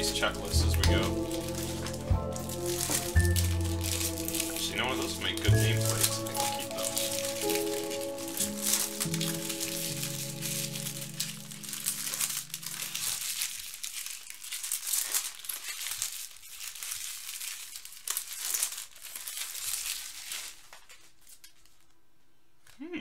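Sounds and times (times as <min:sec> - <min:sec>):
foil wrappers crinkling and tearing: 0:00.0 - 0:22.8.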